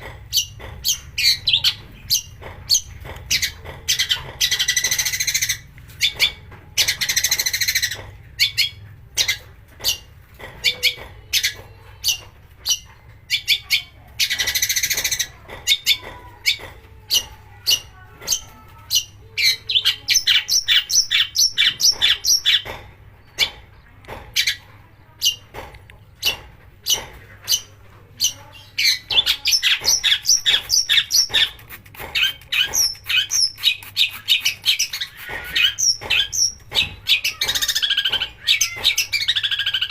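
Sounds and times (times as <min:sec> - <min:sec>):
bird clicking and chattering: 0:00.0 - 0:39.9.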